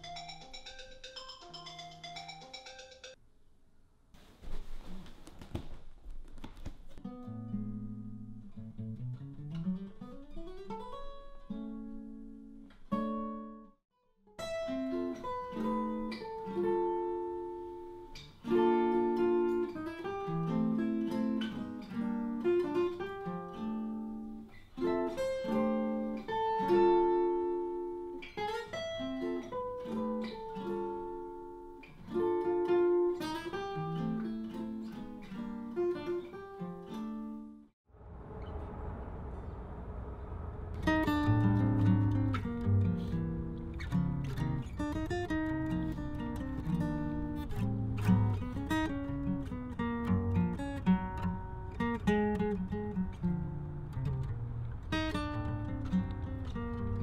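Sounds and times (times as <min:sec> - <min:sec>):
acoustic guitar playing: 0:00.0 - 0:03.2, 0:07.0 - 0:37.8, 0:40.7 - 0:57.0.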